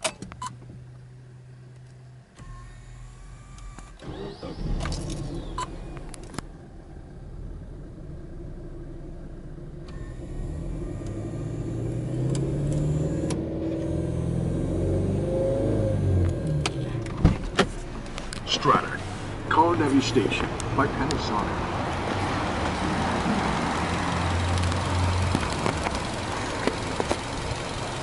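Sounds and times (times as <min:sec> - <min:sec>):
car engine starting and revving: 0:00.0 - 0:28.0.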